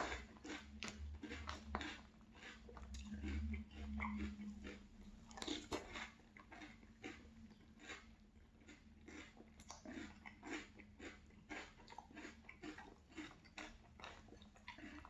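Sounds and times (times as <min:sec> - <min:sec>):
chewing crunchy cereal: 0:00.0 - 0:15.0.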